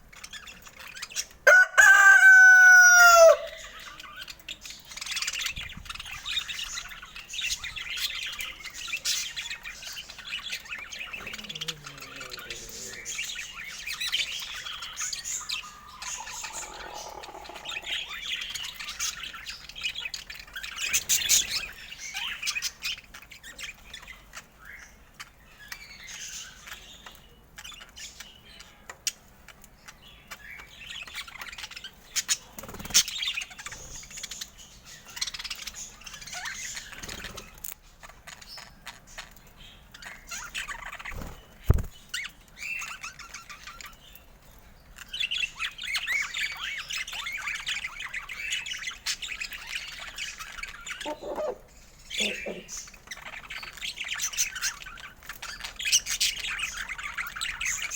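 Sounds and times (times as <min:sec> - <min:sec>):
budgerigars chirping and warbling: 0:00.0 - 0:02.6, 0:03.2 - 0:57.9.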